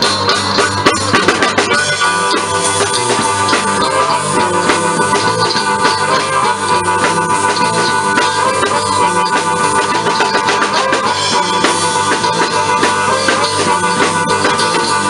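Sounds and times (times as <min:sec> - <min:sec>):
blues band playing: 0:00.0 - 0:15.0
drum kit beat: 0:00.0 - 0:15.0.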